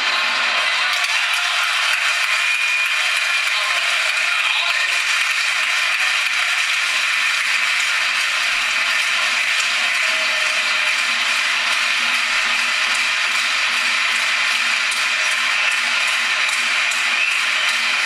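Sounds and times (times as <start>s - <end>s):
crowd noise in sports hall: 0.0s - 18.0s.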